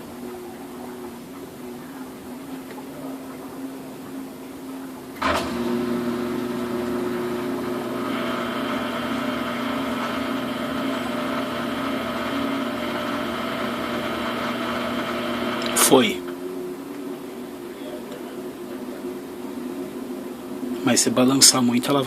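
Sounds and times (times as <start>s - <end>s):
higher whine: 0.0s - 21.8s
washing machine motor whine: 0.0s - 22.0s.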